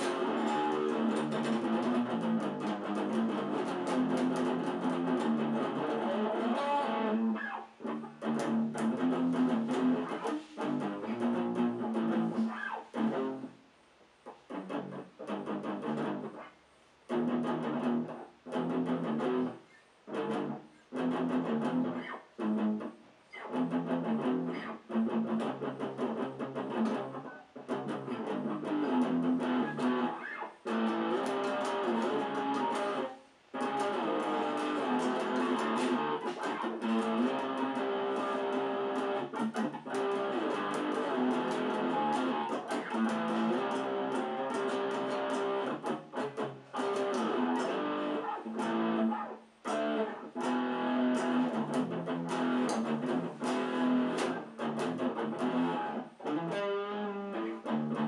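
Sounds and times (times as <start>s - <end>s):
electric guitar chords and riffs: 0.0s - 13.6s, 14.3s - 16.5s, 17.1s - 58.0s.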